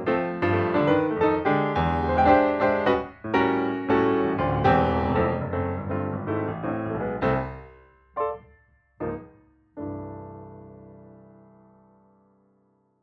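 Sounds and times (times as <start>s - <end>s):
piano music: 0.0s - 12.6s.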